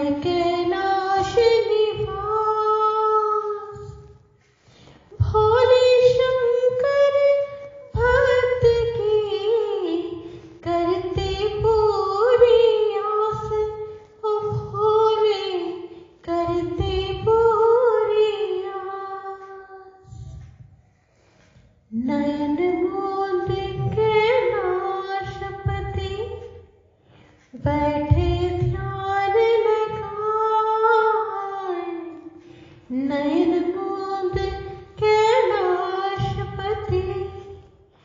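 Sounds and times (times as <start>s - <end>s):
woman singing devotional song: 0.0s - 4.2s, 5.1s - 20.1s, 21.9s - 26.6s, 27.5s - 37.6s.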